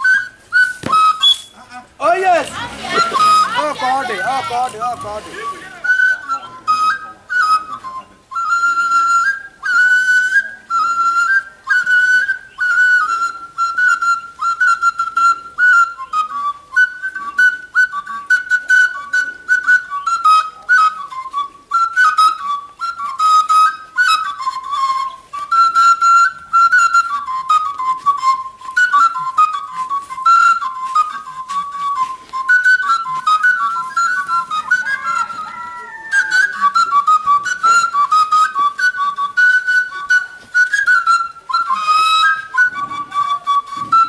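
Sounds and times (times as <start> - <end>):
wooden flute playing short phrases: 0.0 - 44.0.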